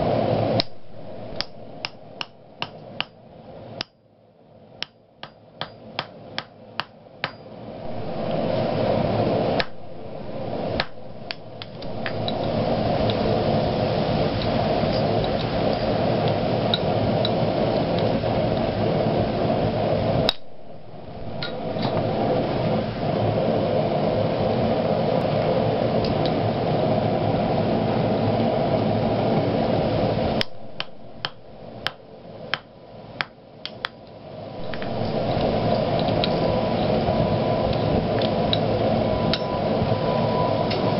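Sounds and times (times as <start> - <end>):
forge roaring: 0.0 - 3.0, 7.6 - 33.0, 34.2 - 40.9.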